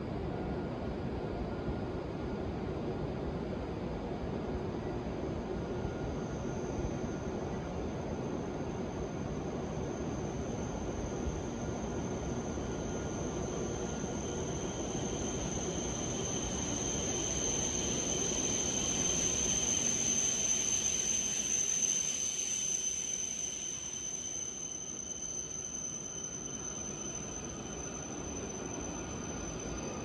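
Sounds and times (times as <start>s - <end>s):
train pulling in and slowing: 0.0s - 30.0s
high steady squeal: 5.4s - 30.0s.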